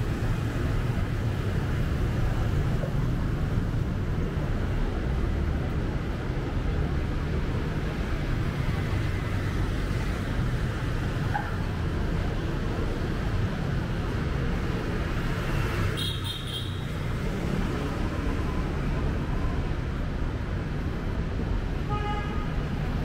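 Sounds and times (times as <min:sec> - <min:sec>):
road traffic rumble: 0:00.0 - 0:23.0
street noise: 0:00.0 - 0:23.0.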